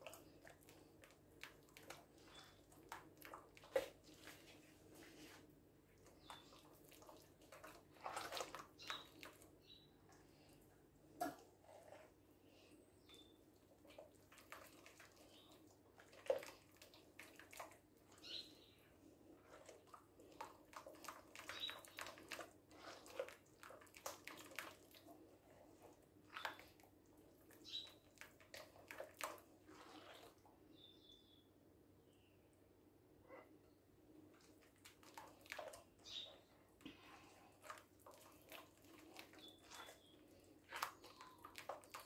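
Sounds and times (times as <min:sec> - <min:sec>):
hand squelching wet mixture: 0:00.0 - 0:31.6, 0:33.4 - 0:42.0.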